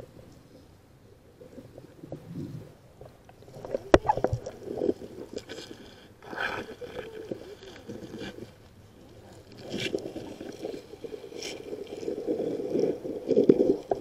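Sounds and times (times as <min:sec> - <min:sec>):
underwater sloshing and bubbling: 0:00.0 - 0:14.0
rush of bubbling: 0:01.5 - 0:14.0.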